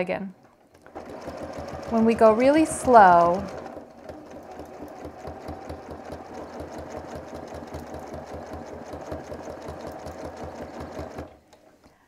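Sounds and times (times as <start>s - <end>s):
sewing machine stitching: 0.7s - 11.4s.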